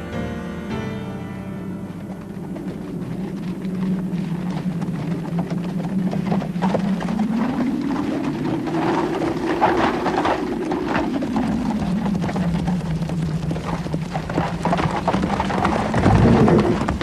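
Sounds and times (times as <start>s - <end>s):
low steady hum: 0.0s - 17.0s
horses hooves clip-clopping: 1.3s - 17.0s.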